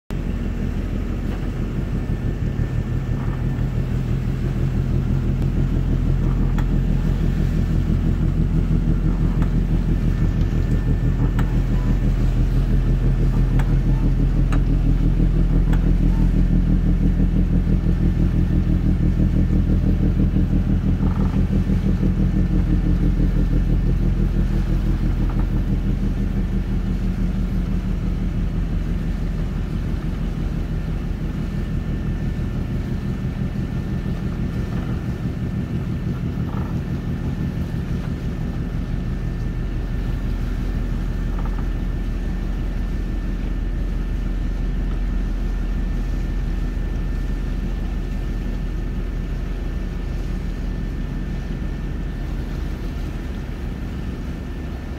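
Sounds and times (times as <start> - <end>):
boat engine droning: 0.1 - 54.9.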